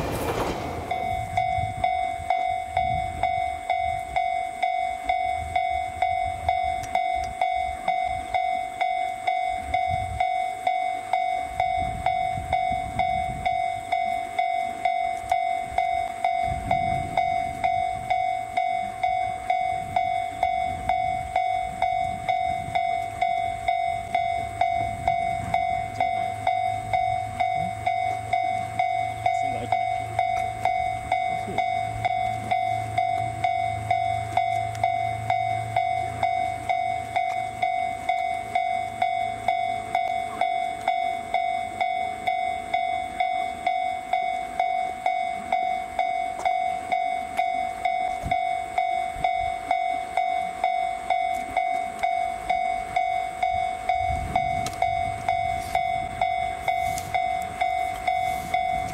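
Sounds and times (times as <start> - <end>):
level crossing bell ringing: 0.0 - 58.9
low train rumble: 0.0 - 58.9.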